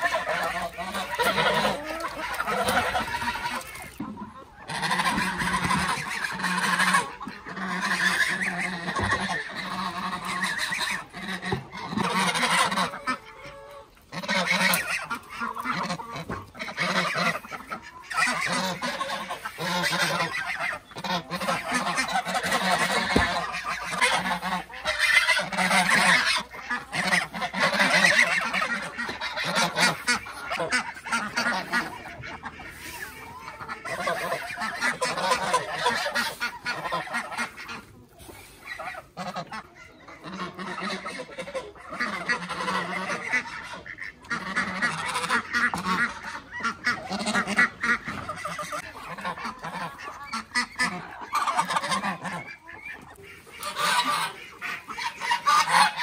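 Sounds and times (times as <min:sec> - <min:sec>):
ducks and chickens calling: 0:00.0 - 0:56.0
geese honking: 0:00.0 - 0:56.0.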